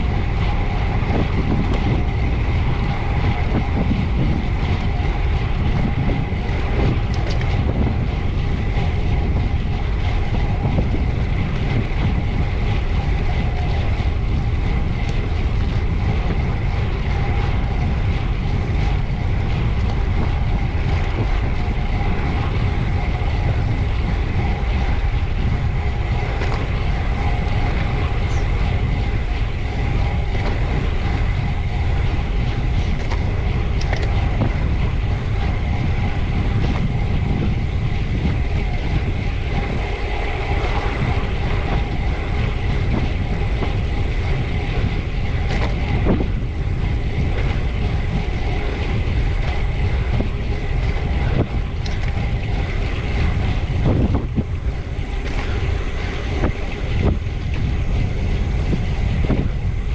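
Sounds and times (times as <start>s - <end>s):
bicycle road noise: 0.0s - 59.9s
faint steady whine: 0.0s - 59.9s
wind buffeting microphone: 0.0s - 59.9s.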